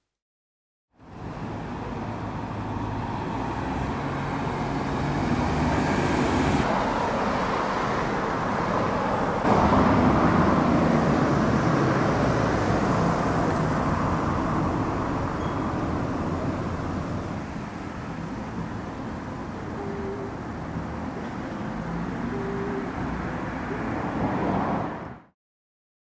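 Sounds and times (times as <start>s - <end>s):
passing cars: 1.0s - 25.4s.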